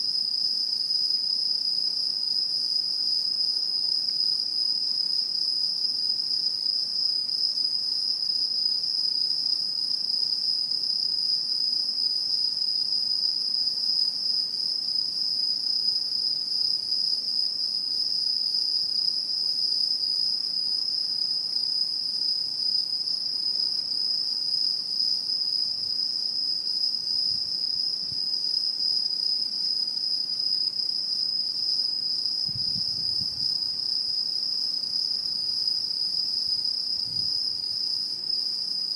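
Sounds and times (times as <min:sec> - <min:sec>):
insects chorus: 0:00.2 - 0:38.9.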